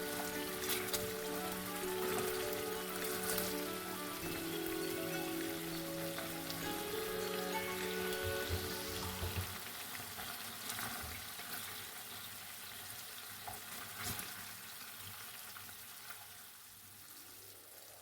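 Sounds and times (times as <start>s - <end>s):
chicken sizzling in a pan: 0.0s - 18.0s.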